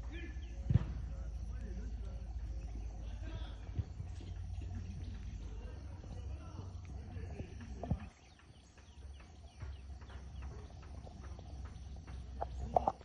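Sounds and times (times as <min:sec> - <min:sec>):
animals chirping: 0:00.0 - 0:13.0
steady low rumble: 0:00.0 - 0:13.0.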